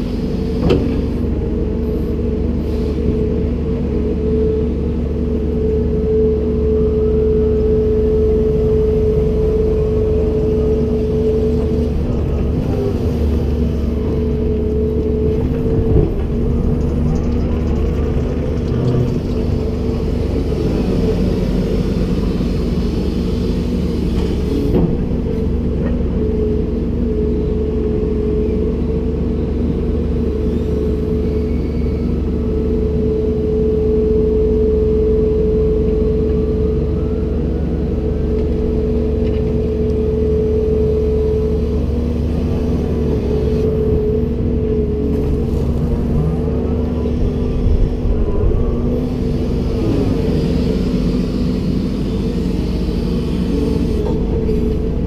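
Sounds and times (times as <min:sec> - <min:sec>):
engine whine: 0:00.0 - 0:55.0
excavator diesel engine drone: 0:00.0 - 0:55.0.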